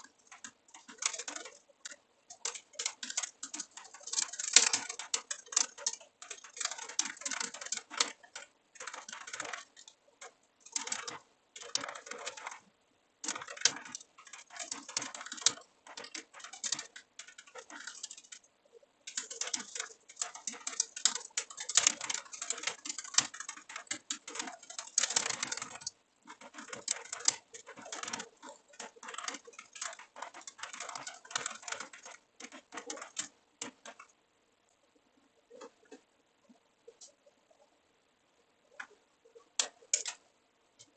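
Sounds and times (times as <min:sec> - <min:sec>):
computer keyboard typing: 0:00.0 - 0:34.2, 0:38.7 - 0:40.9.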